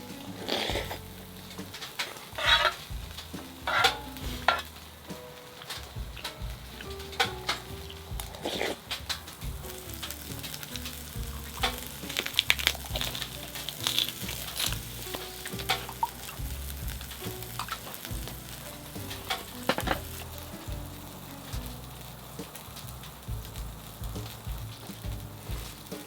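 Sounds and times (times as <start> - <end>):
fire crackling and sizzling: 0.0 - 26.0
soft background music: 0.0 - 26.0.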